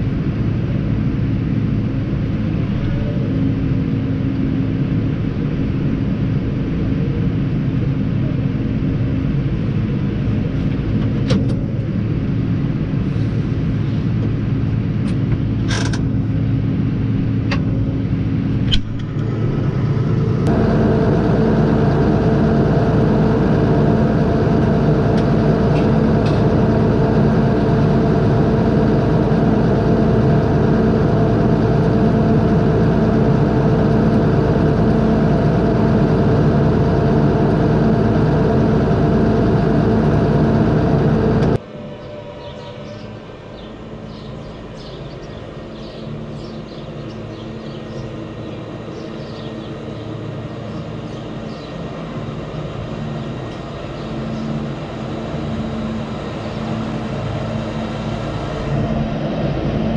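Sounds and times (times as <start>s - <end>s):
tractor engine running: 9.4s - 41.6s, 43.7s - 59.9s.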